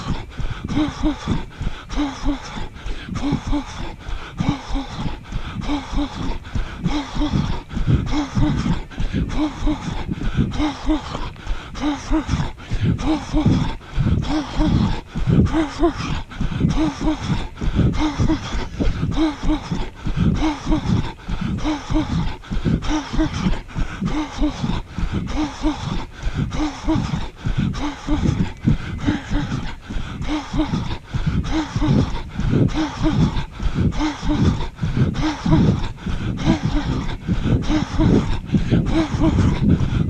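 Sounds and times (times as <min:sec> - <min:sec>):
runner breathing hard: 0:00.0 - 0:40.0.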